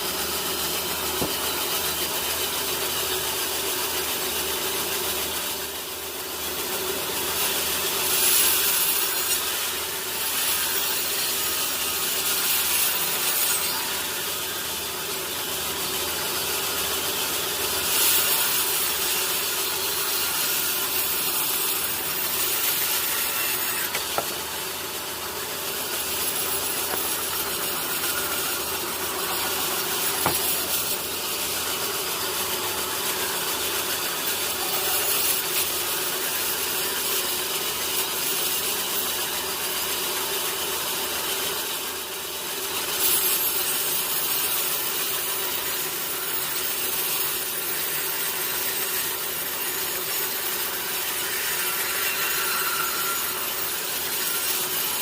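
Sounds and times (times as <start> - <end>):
saw rasping through log: 0.0 - 41.8, 42.7 - 55.0.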